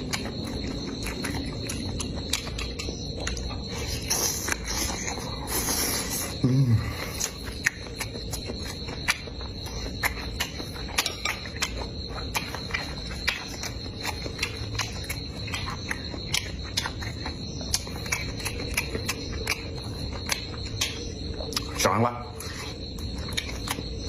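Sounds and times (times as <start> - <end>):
wet mouth chewing clicks: 0.0 - 24.0.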